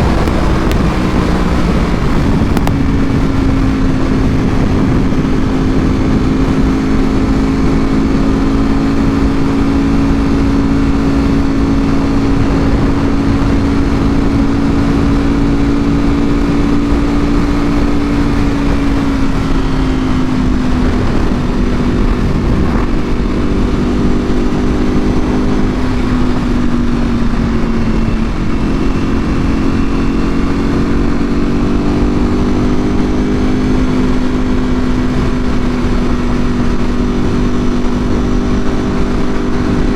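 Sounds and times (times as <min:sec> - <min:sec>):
motorcycle engine cruising: 0:00.0 - 0:39.9
rushing noise: 0:00.0 - 0:39.9.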